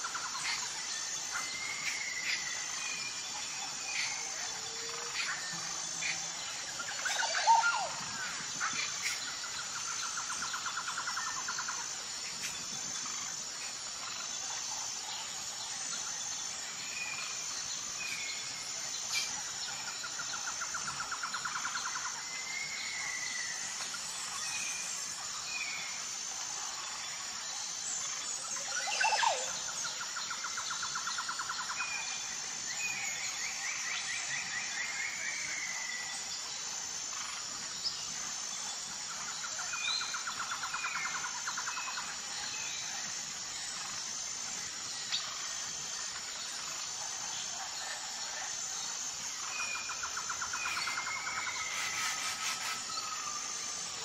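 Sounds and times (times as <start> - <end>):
insect drone: 0.0 - 54.0.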